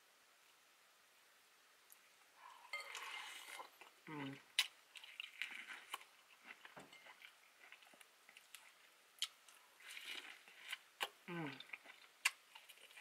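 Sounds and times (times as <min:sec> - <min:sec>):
chewing food: 0:01.9 - 0:13.0.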